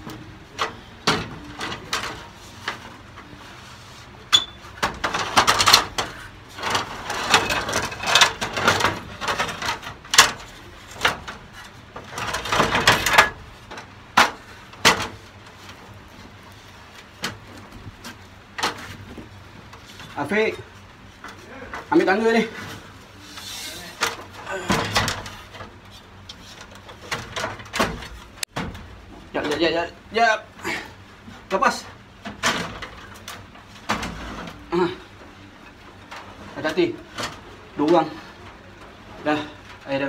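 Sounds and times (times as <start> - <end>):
metal ladder knocking and scraping: 0.0 - 3.6, 4.2 - 30.2, 31.2 - 40.0.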